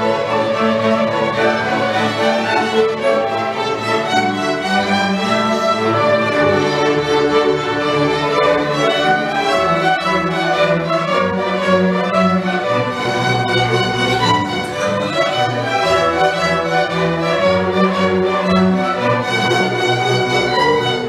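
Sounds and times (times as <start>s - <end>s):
orchestra bowed strings: 0.0s - 21.0s.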